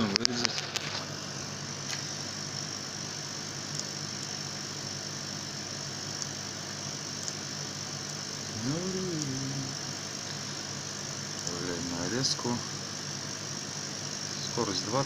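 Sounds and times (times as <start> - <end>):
electric hum and hiss: 0.0 - 15.0.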